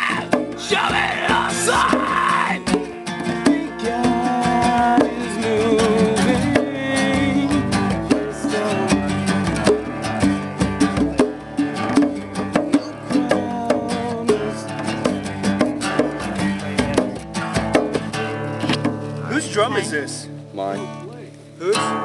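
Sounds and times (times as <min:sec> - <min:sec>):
sharp percussive strikes: 0:00.0 - 0:19.4
plucked guitar: 0:00.0 - 0:22.0.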